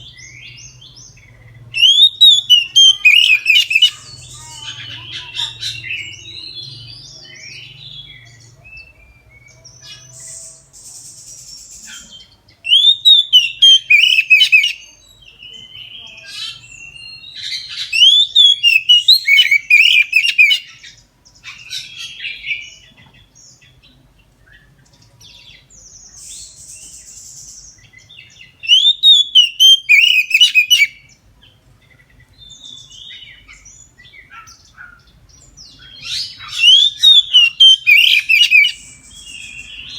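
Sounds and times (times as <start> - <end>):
bird whistling song: 0.0 - 23.0, 25.4 - 31.2, 32.4 - 39.9
bird chirps: 0.0 - 39.9.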